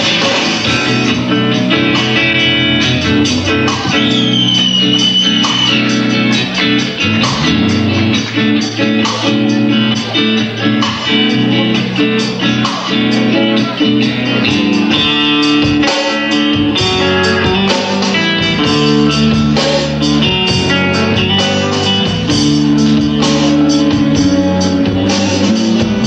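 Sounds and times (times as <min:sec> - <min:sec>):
guitars: 0:00.0 - 0:26.0
rock band playing live: 0:00.0 - 0:26.0.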